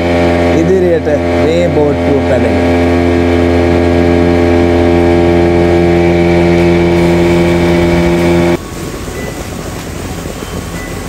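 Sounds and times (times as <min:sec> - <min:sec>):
motorboat engine running: 0:00.0 - 0:11.0
water rushing past hull: 0:00.0 - 0:11.0.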